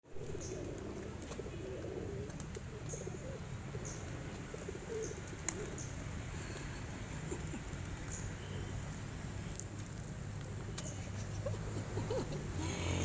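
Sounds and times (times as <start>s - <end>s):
pigeons cooing: 0.1s - 8.8s, 11.0s - 13.0s.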